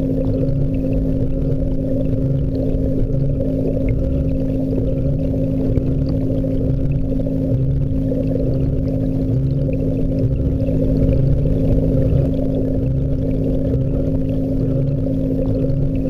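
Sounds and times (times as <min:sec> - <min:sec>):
aquarium pump humming: 0:00.0 - 0:16.0
water flowing: 0:00.0 - 0:16.0.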